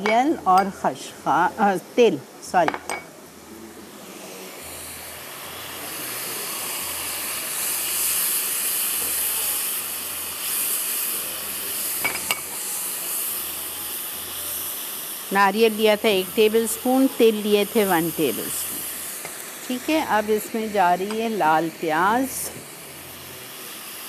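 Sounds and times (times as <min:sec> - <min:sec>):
oil sizzling: 0:00.0 - 0:24.0.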